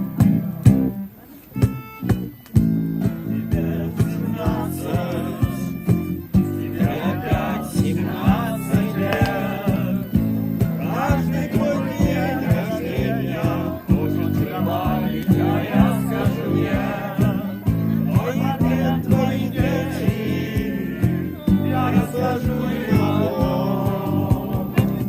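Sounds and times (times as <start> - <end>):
rock song with singing: 2.6 - 25.0.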